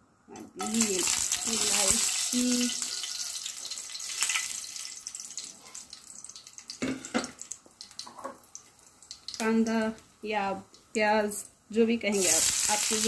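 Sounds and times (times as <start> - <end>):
spices sizzling in hot oil: 0.6 - 10.9, 12.1 - 13.0.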